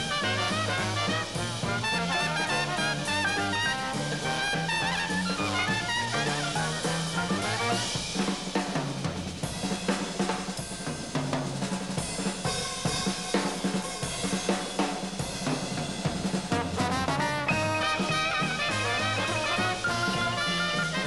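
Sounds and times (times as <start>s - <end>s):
jazz drum kit solo: 0.0s - 21.0s.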